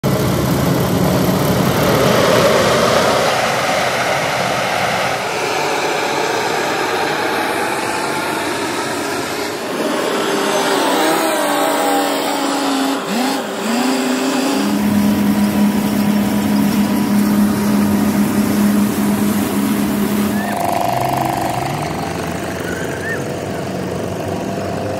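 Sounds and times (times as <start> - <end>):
diesel engine revving: 0.0 - 24.9
heavy construction machinery roar: 0.0 - 24.9
steady machine hum: 0.0 - 24.9.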